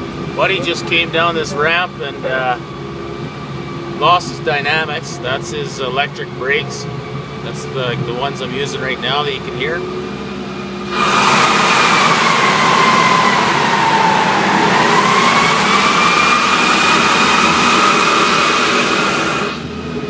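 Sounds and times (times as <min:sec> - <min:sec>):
truck brakes rushing and whining: 0:00.0 - 0:20.0.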